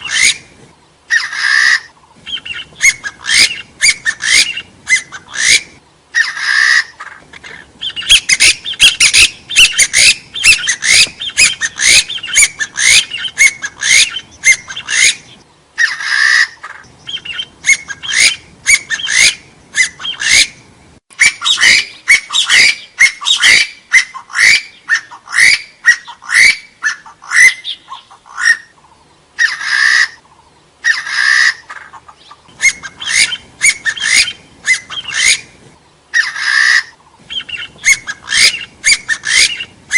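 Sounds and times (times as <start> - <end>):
harsh bird calls: 0.0 - 39.9
partridge calling: 0.0 - 39.9.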